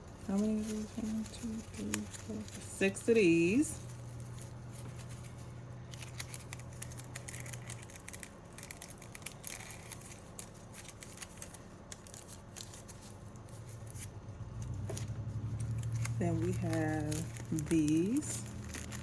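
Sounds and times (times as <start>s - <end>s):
plastic sheets crinkling and clicking: 0.0s - 19.0s.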